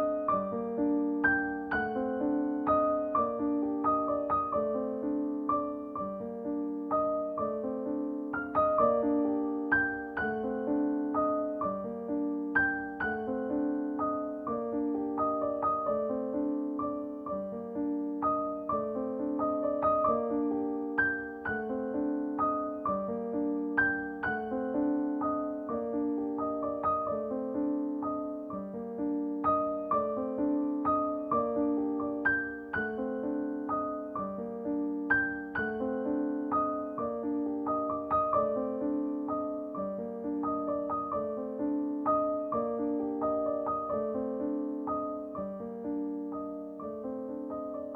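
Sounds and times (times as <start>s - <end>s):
gentle piano melody: 0.0s - 47.9s.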